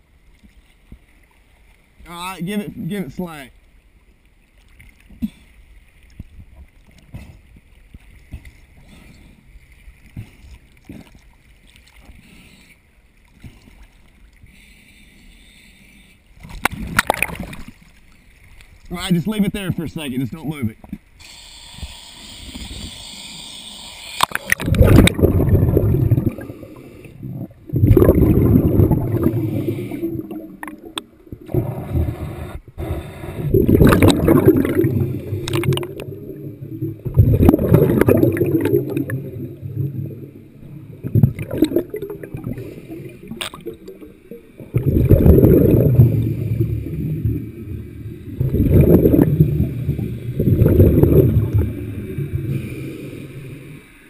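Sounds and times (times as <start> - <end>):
muffled underwater sloshing: 0.0 - 21.2, 24.2 - 54.0.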